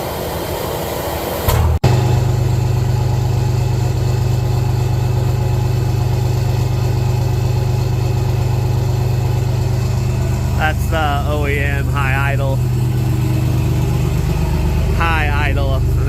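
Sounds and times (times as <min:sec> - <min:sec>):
diesel engine droning: 0:01.3 - 0:16.0.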